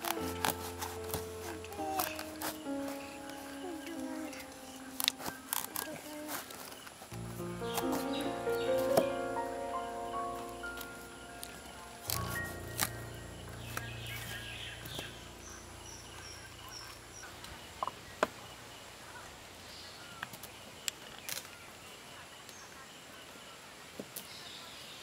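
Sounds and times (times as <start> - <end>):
bird chirping: 0.0 - 20.9.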